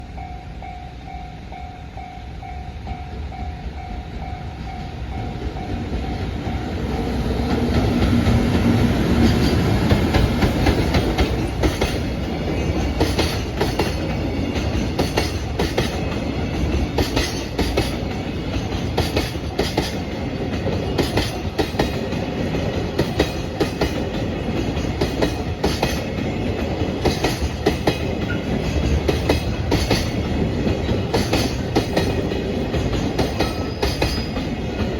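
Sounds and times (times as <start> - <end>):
train passing: 0.0 - 34.9.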